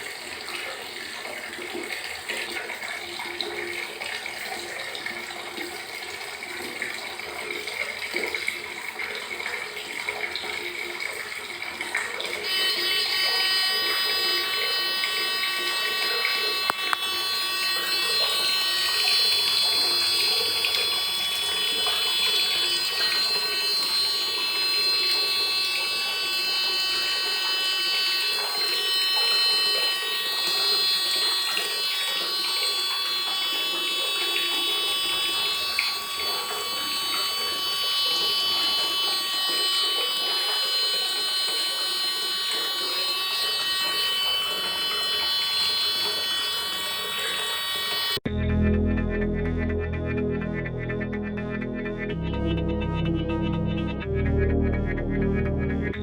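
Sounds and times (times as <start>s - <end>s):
water running: 0.0s - 48.3s
alarm buzzer tones: 0.0s - 56.0s.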